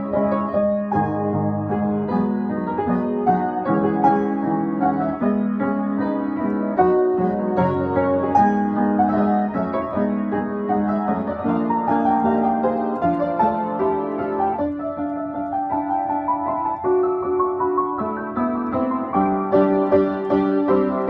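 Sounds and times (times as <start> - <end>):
classical piano piece: 0.0 - 21.0.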